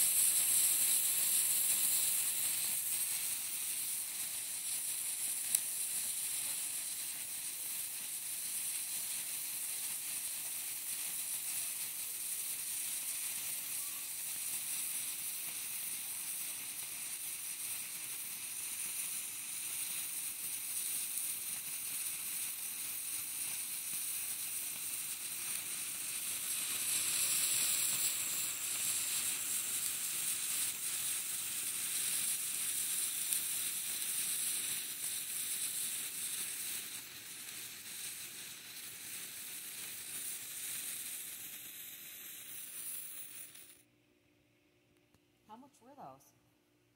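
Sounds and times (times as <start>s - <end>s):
sparklers fizzing: 0.0s - 43.9s.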